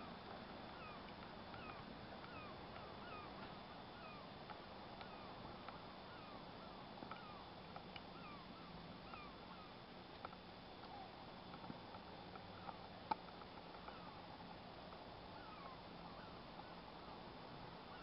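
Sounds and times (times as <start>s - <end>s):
distant birds calling: 0.0s - 18.0s
soft steady hiss: 0.0s - 18.0s.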